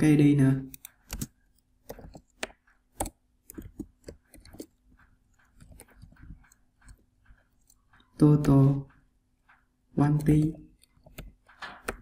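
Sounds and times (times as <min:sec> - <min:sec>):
computer keyboard typing: 0:00.6 - 0:12.0.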